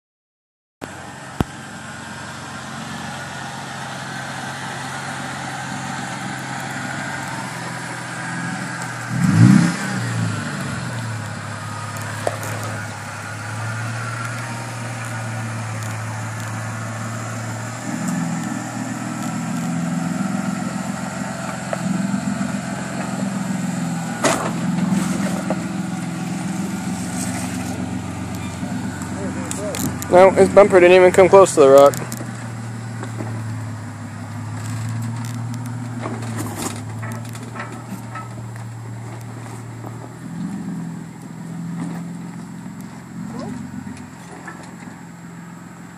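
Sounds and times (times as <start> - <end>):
truck engine running at low revs: 0.8 - 45.9.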